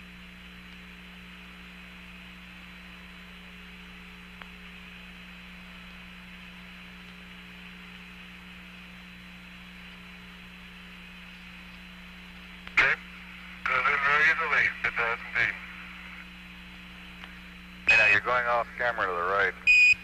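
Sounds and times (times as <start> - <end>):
radio channel hiss and hum: 0.0 - 20.0.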